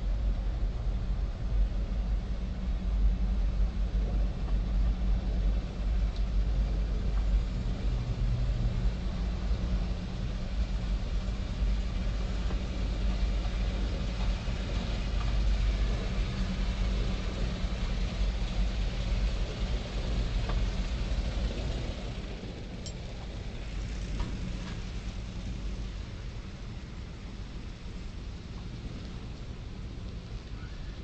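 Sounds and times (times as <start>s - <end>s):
escalator rumble and hum: 0.0s - 31.0s.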